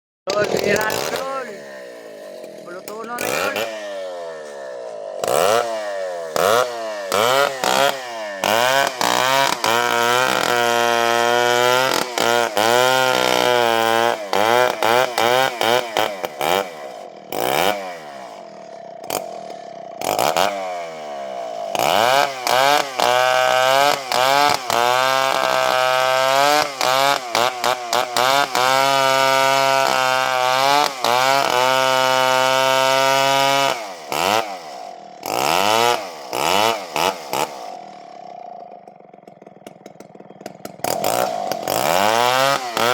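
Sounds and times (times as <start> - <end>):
chainsaw cutting wood: 0.3 - 42.9.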